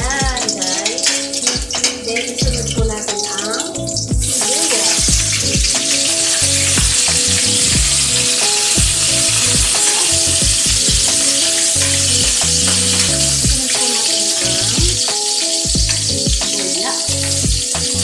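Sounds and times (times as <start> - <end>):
vegetables sizzling in hot oil: 0.4 - 2.4, 3.2 - 18.0.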